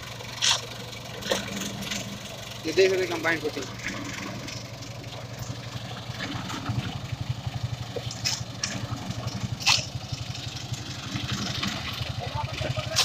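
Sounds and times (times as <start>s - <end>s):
concrete vibrator engine running: 0.0s - 13.0s.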